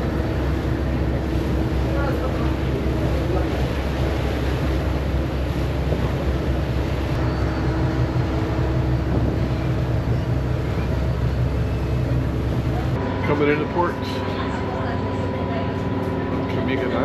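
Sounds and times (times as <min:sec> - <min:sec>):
rushing water noise: 0:00.0 - 0:15.0
ferry engine droning: 0:00.0 - 0:17.0.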